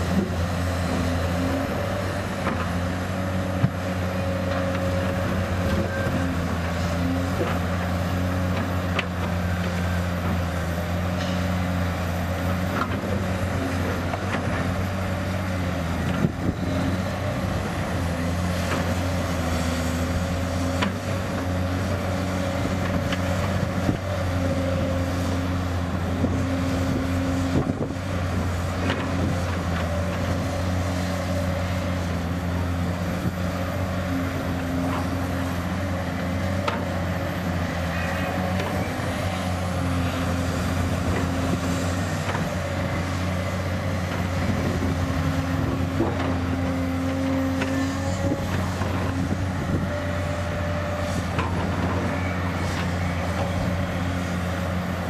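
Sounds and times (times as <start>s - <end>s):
excavator diesel engines running: 0.0s - 55.0s.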